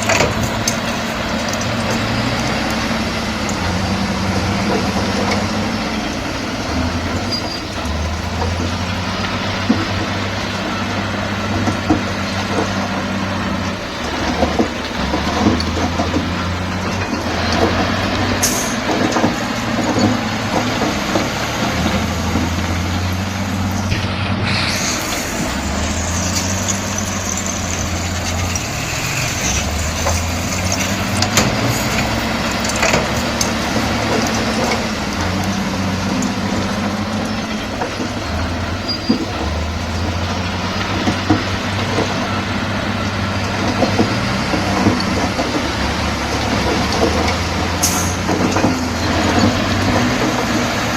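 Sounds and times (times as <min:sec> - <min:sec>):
clanks and knocks: 0:00.0 - 0:23.0, 0:25.0 - 0:50.9
bulldozer diesel engine running: 0:00.0 - 0:50.9.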